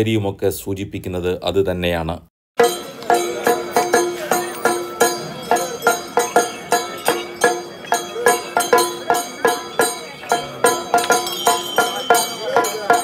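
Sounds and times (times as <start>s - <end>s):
background music with percussion: 2.6s - 13.0s.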